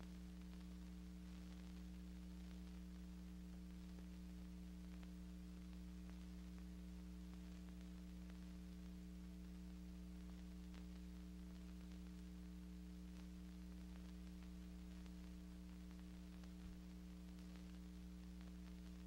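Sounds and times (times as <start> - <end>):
faint mains hum: 0.0 - 19.0
soft crackles: 0.0 - 19.0.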